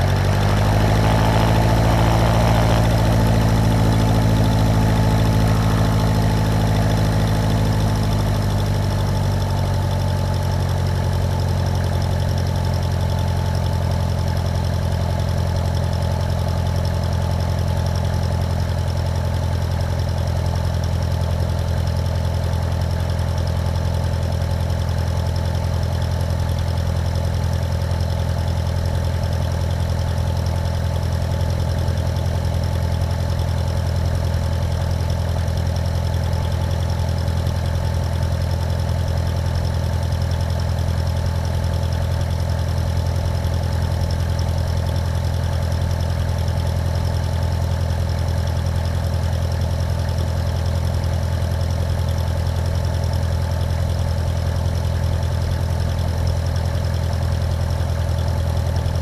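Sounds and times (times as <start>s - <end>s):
propeller plane engine drone: 0.0s - 59.0s.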